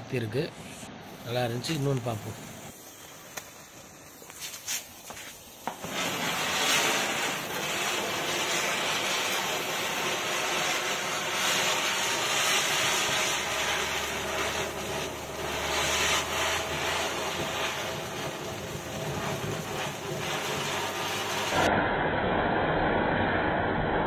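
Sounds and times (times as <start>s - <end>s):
firework spinner hissing: 0.2s - 21.7s.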